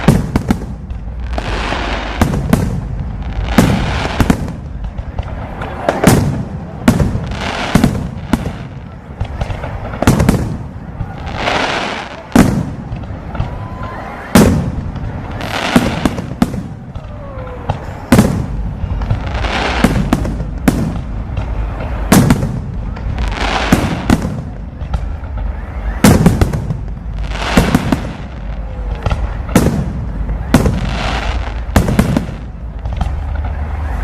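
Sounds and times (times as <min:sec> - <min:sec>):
fireworks bangs: 0:00.0 - 0:34.0
fireworks hissing and crackling: 0:00.0 - 0:34.0.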